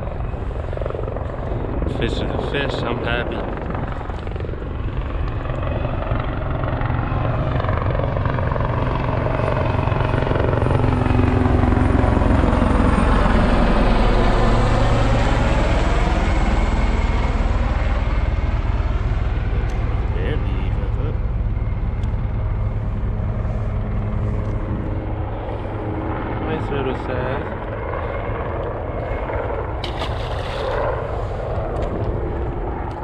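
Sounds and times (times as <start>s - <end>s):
low-flying aircraft passing overhead: 0.0s - 33.0s.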